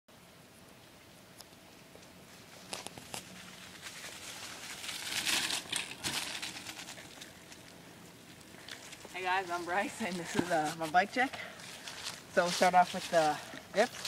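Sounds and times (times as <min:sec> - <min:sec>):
rustling crinkling noise: 0:01.3 - 0:14.0.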